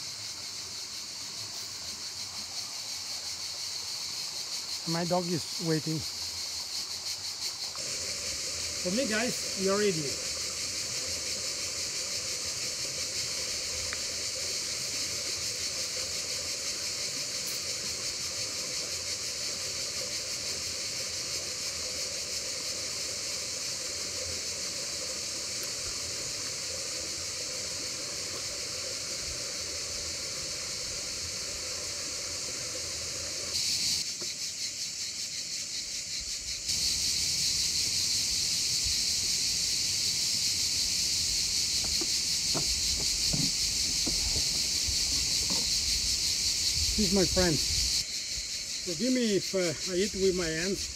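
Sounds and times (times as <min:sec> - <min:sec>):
river running: 0:00.0 - 0:34.0, 0:36.7 - 0:48.2
insects hissing: 0:00.0 - 0:50.9.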